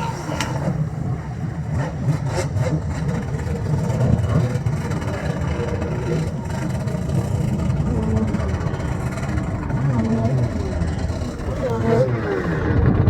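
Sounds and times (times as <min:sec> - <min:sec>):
jet ski engine rumbling: 0:00.0 - 0:13.0.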